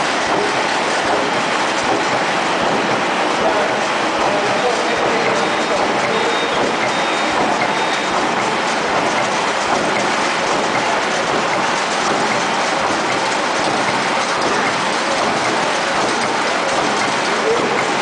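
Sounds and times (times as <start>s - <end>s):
paper cutting machine running: 0.0s - 18.0s.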